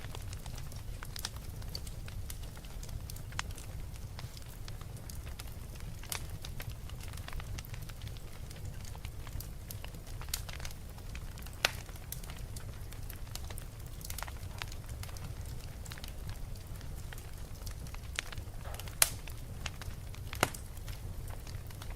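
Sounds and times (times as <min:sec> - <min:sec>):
fire crackling and popping: 0:00.0 - 0:21.9.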